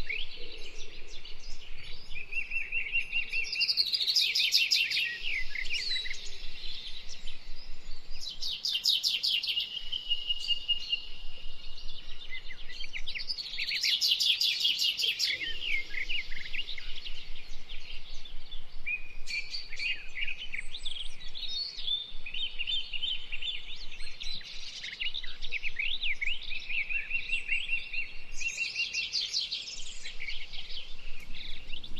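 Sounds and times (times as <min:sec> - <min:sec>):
blackbirds singing and calling: 0:00.0 - 0:31.9.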